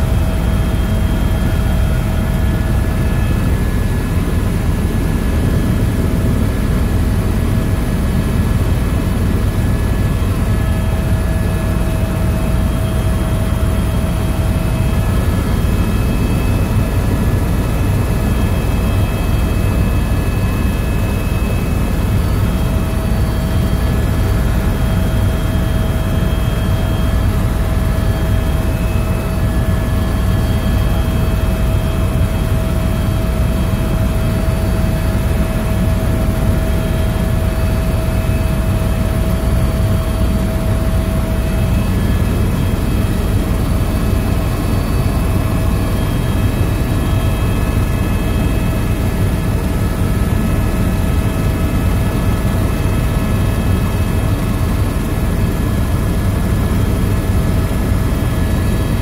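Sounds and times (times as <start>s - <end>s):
helicopter rotor and engine drone: 0.0s - 59.0s
thin steady whines: 0.0s - 59.0s.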